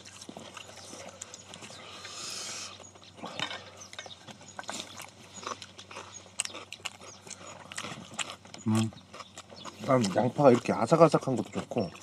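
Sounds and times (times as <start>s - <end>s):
chewing and mouth sounds: 0.0s - 12.0s.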